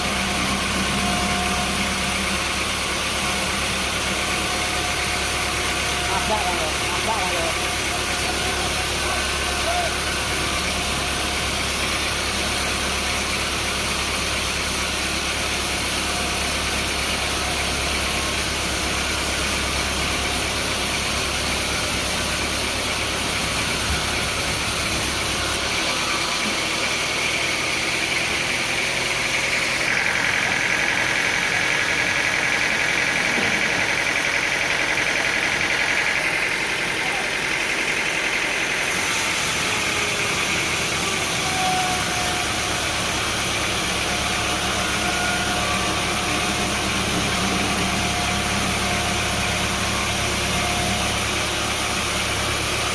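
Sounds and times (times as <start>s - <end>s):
machine engine low hum: 0.0s - 52.9s.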